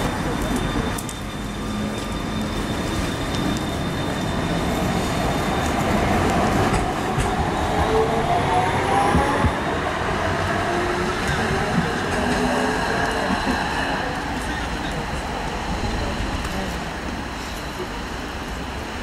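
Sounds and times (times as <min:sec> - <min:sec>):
tram wheels rumbling: 0:00.0 - 0:19.0.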